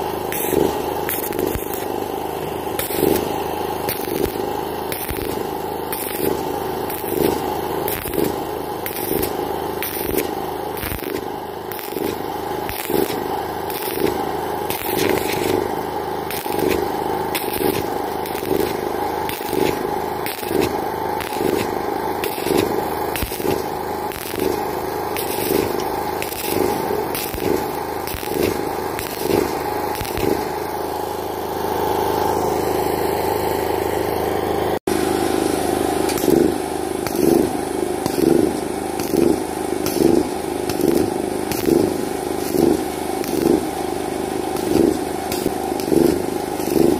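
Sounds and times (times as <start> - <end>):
constant mechanical hum: 0.0 - 46.9
welding arc crackling: 0.0 - 46.9.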